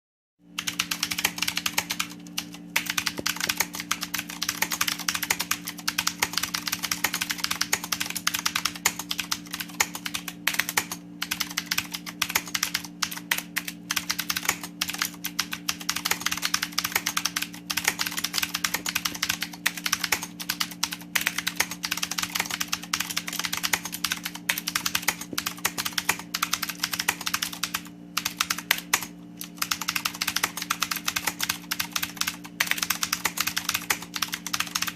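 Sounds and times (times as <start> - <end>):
typing on mechanical keyboard: 0.6 - 34.9.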